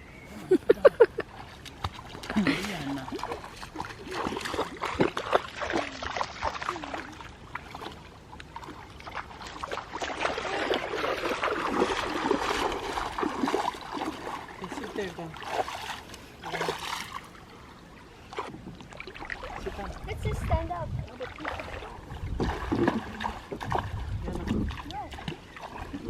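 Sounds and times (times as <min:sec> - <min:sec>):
water splashing and trickling: 0:00.4 - 0:26.0.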